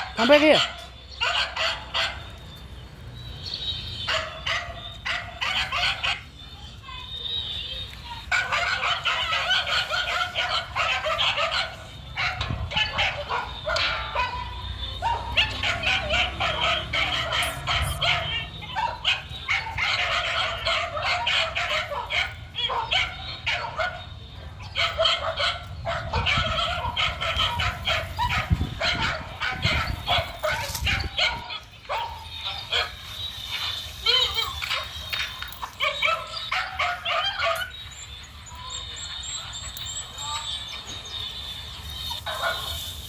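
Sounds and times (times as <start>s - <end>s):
dog barking and yipping: 0.0s - 2.3s, 4.0s - 6.4s, 8.2s - 43.0s.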